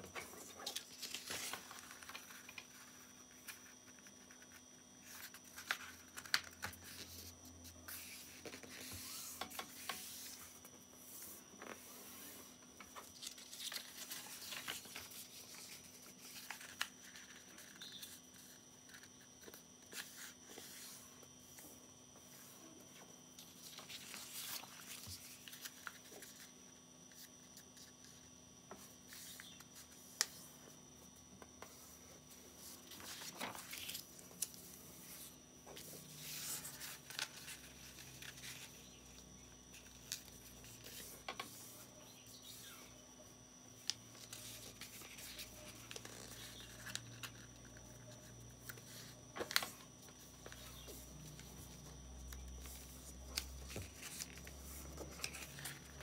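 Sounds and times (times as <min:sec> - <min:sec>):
paper rustling and crinkling: 0:00.0 - 0:21.0, 0:23.4 - 0:28.2, 0:31.6 - 0:41.8, 0:43.9 - 0:56.0.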